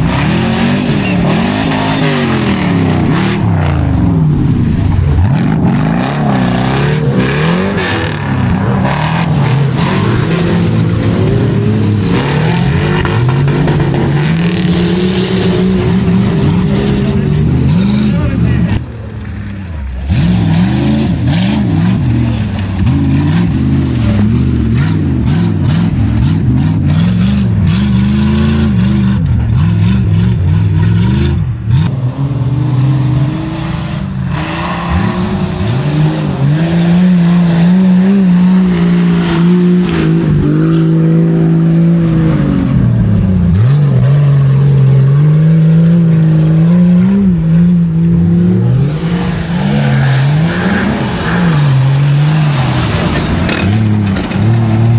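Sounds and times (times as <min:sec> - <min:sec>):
off-road vehicle engine revving: 0:00.0 - 0:54.9.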